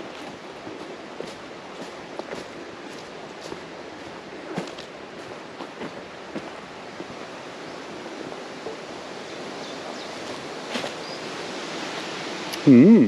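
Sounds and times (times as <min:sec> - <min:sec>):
wind in trees: 0:00.0 - 0:13.0.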